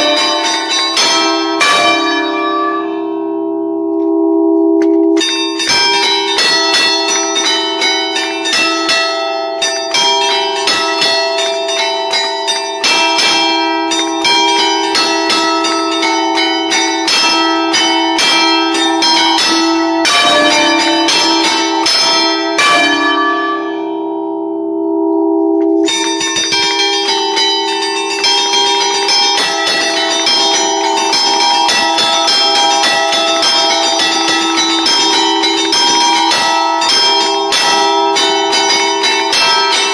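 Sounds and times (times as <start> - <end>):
church bells ringing festive tunes: 0.0 - 39.9.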